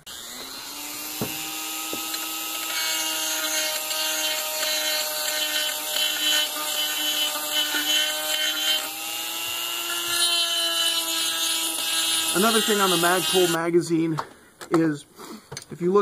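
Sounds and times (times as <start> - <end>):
rotary tool grinding: 0.0 - 13.6.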